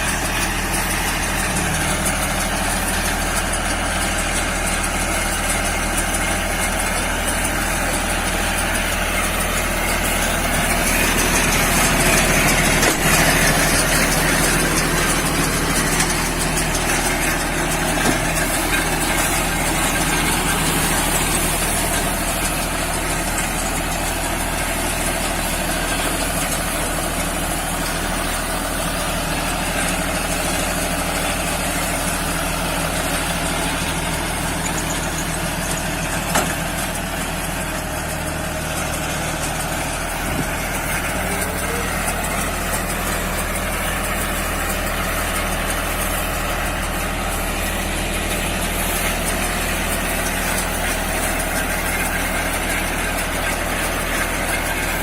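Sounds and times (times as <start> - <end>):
baler engine running: 0.0 - 55.0.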